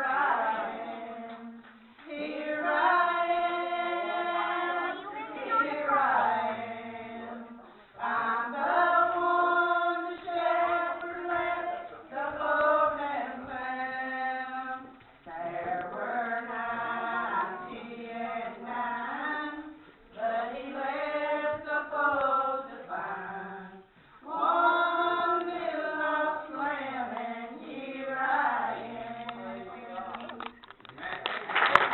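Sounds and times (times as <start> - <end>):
women singing a church song: 0.0 - 30.5.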